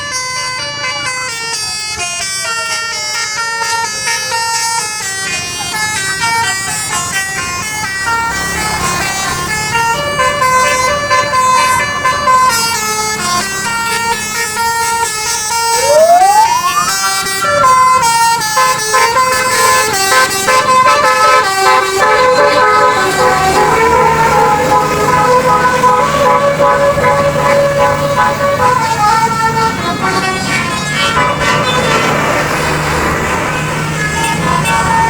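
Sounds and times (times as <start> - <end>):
bus horn playing a melody: 0.0 - 35.0.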